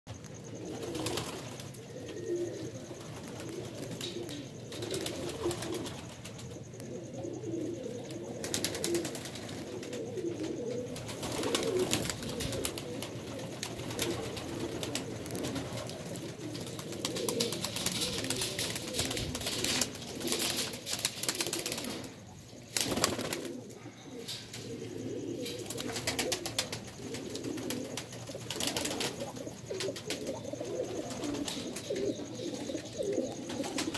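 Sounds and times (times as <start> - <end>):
pigeons cooing: 0.2 - 33.9.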